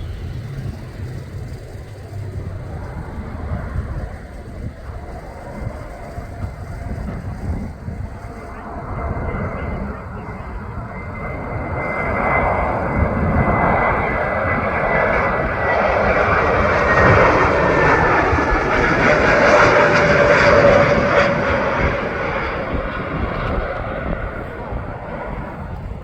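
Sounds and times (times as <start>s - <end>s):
airliner jet engines flying past: 0.0s - 26.0s.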